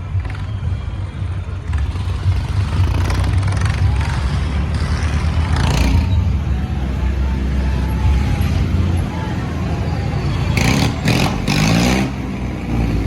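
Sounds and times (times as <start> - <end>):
crowd voices: 0.0 - 13.0
diesel tractor engine rumbling: 0.0 - 13.0.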